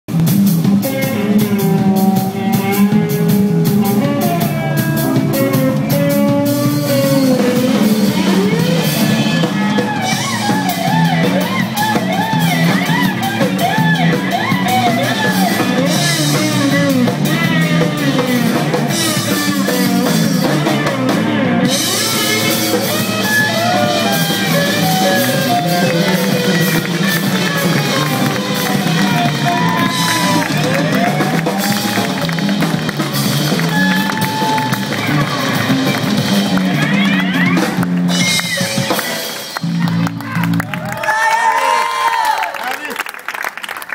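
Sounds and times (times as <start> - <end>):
music with drum beat: 0.1 - 40.9.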